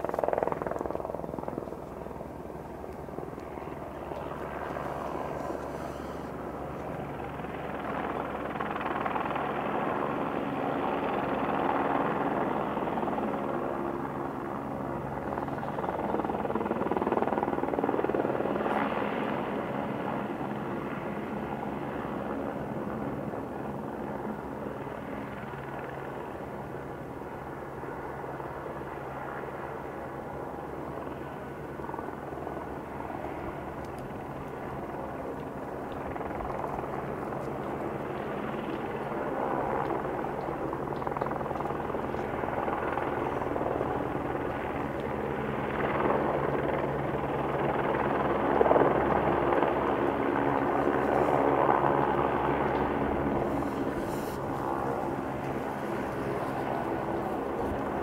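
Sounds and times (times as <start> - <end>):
helicopter flying: 0.0 - 58.0.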